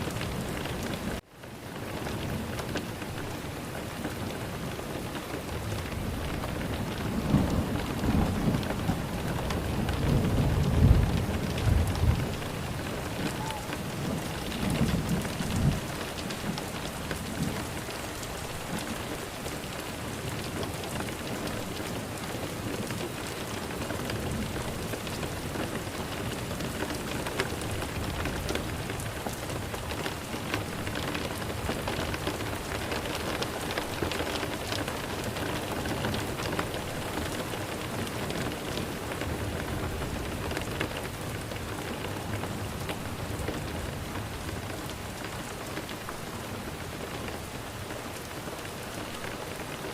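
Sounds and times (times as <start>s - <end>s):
steady rain patter: 0.0s - 49.9s.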